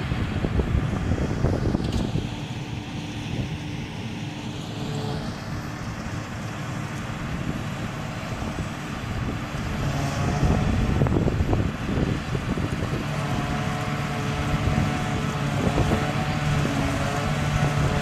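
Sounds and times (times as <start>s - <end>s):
harvester engine and machinery drone: 0.0s - 18.0s.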